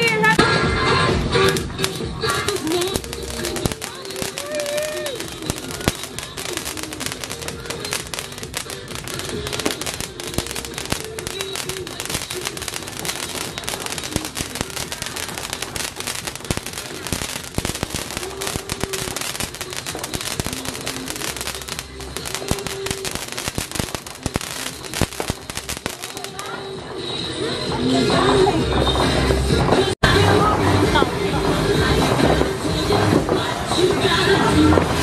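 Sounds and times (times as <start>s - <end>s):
background voices: 0.0s - 35.0s
fireworks crackling and popping: 0.0s - 35.0s.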